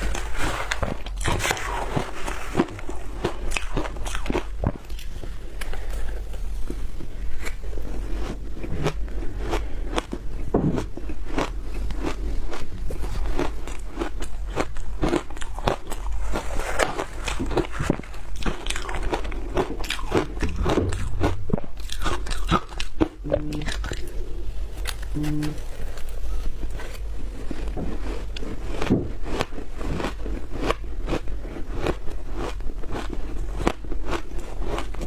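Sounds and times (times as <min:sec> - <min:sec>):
frozen food crunching: 0:00.0 - 0:35.0.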